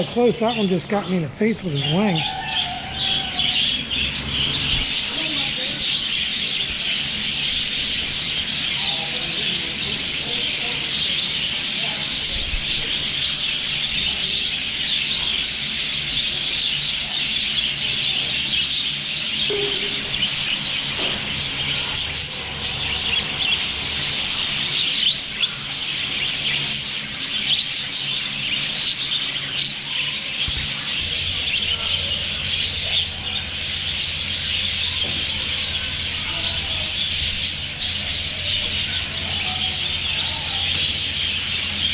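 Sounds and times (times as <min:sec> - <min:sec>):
flock of budgerigars chattering: 0:00.0 - 0:41.9.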